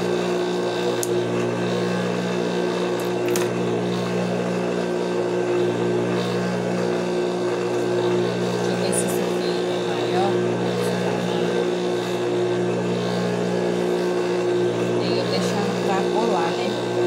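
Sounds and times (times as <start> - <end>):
sewing machine motor humming: 0.0 - 17.0.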